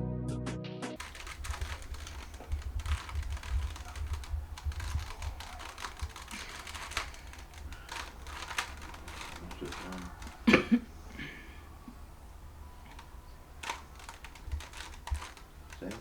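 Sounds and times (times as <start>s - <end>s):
puzzle cube clicking: 1.0s - 11.0s, 12.7s - 16.0s.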